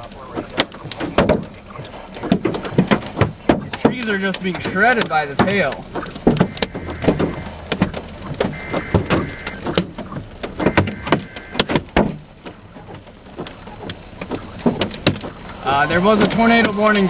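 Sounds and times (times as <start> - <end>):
hail knocking on car: 0.0 - 17.0.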